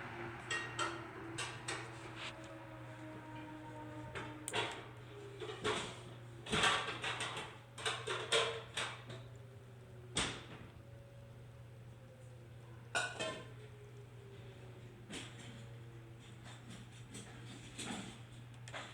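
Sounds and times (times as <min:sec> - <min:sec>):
warning sirens winding down: 0:00.0 - 0:17.6.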